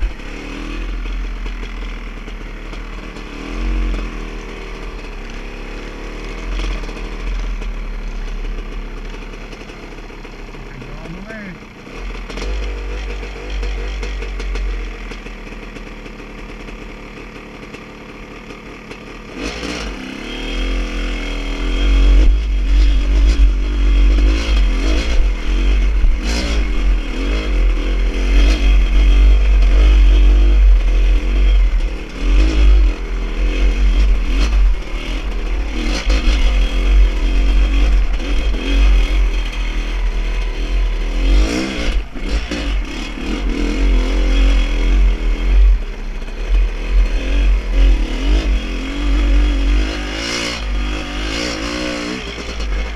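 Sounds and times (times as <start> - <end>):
vehicle engine revving: 0.0 - 9.7, 10.3 - 15.3, 19.2 - 52.9
rattling clatter on rough trail: 0.0 - 52.9.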